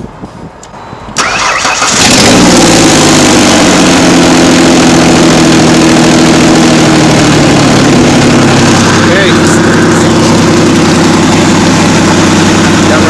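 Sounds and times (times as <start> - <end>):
car engine cranking and starting: 1.2 - 13.0.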